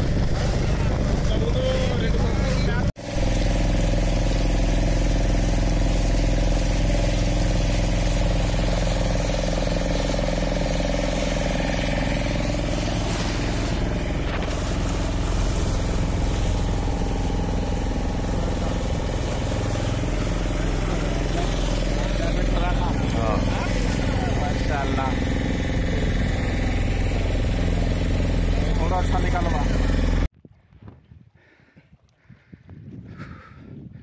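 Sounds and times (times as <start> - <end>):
boat engine running: 0.0 - 30.3
water rushing along hull: 0.0 - 30.3.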